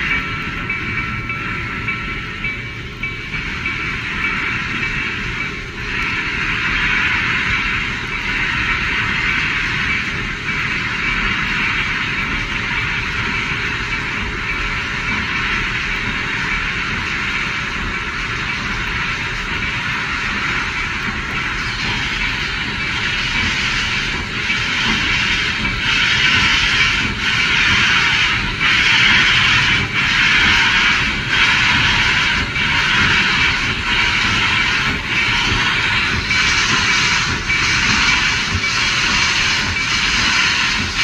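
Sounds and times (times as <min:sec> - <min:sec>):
steam hissing: 0:00.0 - 0:41.0
steam locomotive chuffing: 0:00.0 - 0:41.0.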